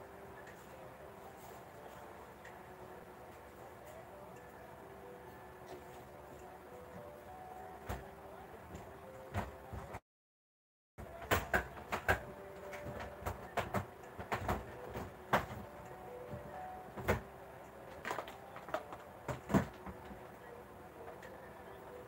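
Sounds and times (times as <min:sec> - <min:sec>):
faint steady background noise: 0:00.0 - 0:10.0, 0:11.0 - 0:22.0.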